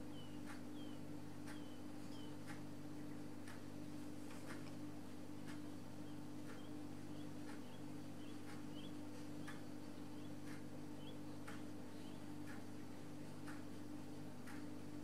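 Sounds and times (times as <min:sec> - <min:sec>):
steady low hum: 0:00.0 - 0:15.0
clock ticking: 0:00.1 - 0:15.0.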